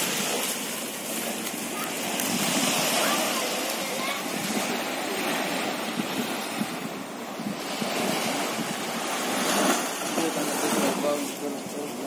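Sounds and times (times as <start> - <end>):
waves washing up a beach: 0.0 - 12.0
wind buffeting the microphone: 0.0 - 12.0.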